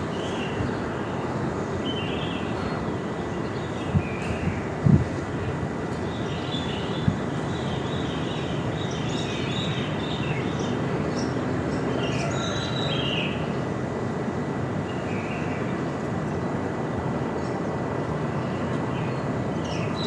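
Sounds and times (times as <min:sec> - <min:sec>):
small birds chirping: 0:00.0 - 0:13.7, 0:17.4 - 0:20.0.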